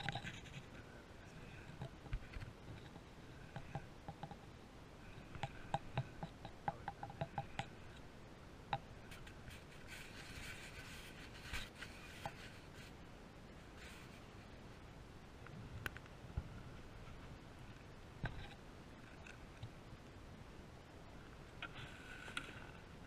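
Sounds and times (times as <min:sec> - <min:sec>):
soft rustle: 0:00.0 - 0:05.8, 0:09.0 - 0:20.2, 0:21.1 - 0:23.0.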